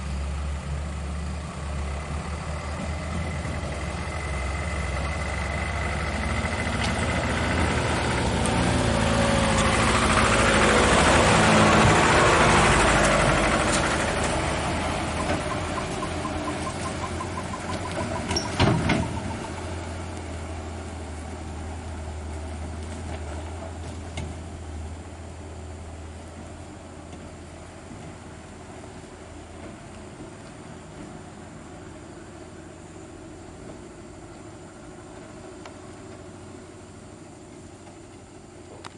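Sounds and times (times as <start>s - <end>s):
truck diesel engine rumbling: 0.0s - 38.9s.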